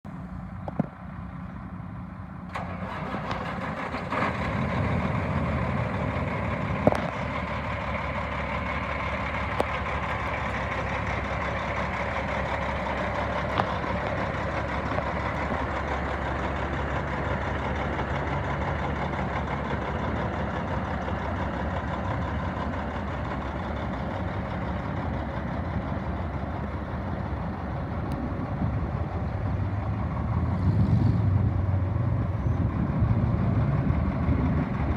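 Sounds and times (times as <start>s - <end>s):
truck diesel engine idling: 0.1s - 34.9s.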